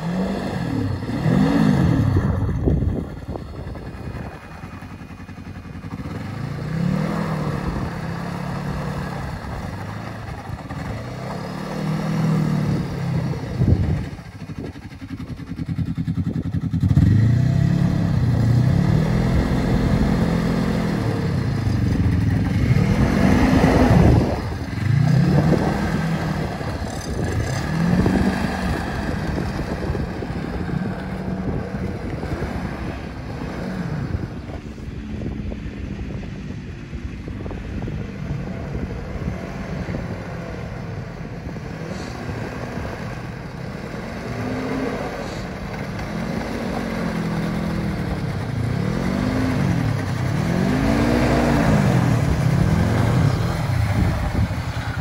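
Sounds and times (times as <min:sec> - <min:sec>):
snowmobile engine revving: 0:00.0 - 0:35.4, 0:37.4 - 0:55.0.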